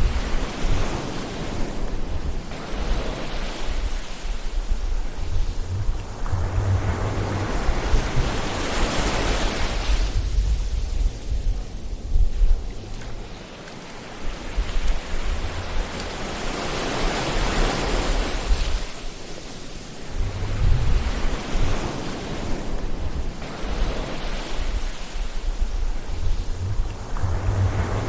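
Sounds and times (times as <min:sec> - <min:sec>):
low wind rumble: 0:00.0 - 0:28.0
ocean waves: 0:00.0 - 0:28.0.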